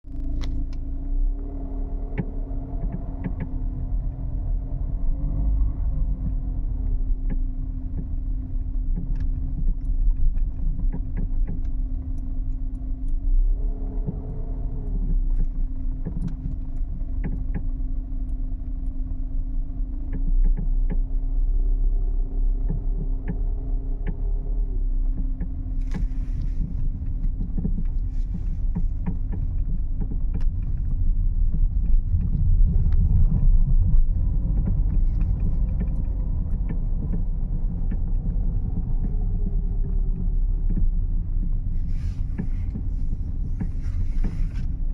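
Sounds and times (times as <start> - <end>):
car road and engine rumble: 0.0 - 44.9
suspension clicks and knocks: 1.9 - 21.4, 22.4 - 44.9.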